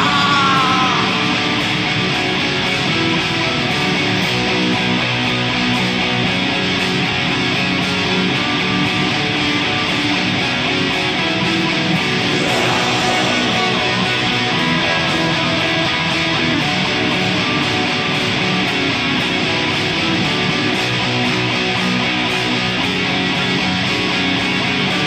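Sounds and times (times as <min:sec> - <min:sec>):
distorted electric guitars: 0:00.0 - 0:25.0.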